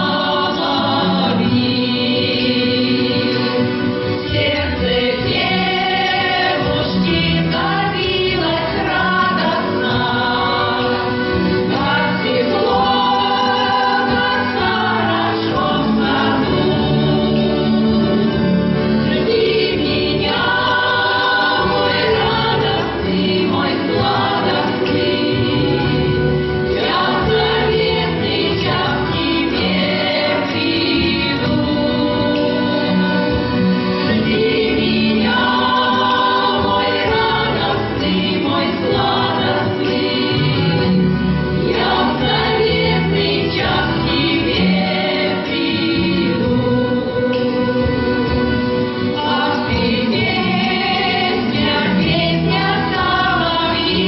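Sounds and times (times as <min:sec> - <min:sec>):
folk choir singing: 0:00.0 - 0:54.0
instrumental accompaniment: 0:00.0 - 0:54.0.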